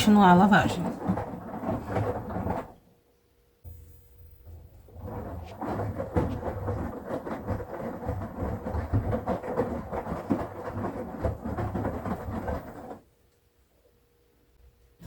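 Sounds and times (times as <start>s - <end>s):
washing machine drum tumbling: 0.0s - 2.8s, 3.7s - 13.1s.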